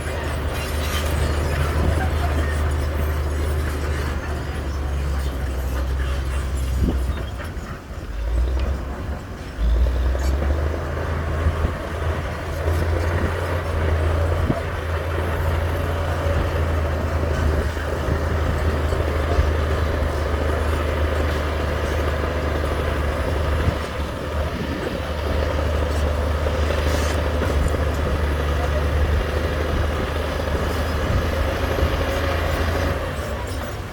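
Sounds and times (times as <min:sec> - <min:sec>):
heavy diesel machinery engine: 0:00.0 - 0:33.9.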